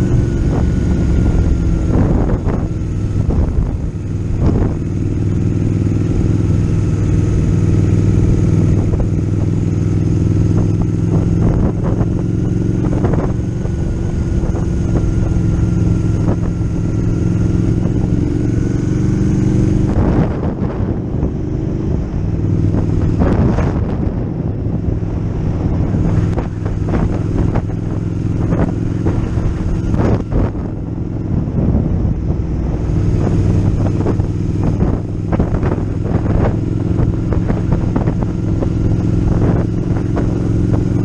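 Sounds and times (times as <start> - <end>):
motorcycle engine cruising: 0.0 - 41.0
wind noise on microphone: 0.0 - 41.0.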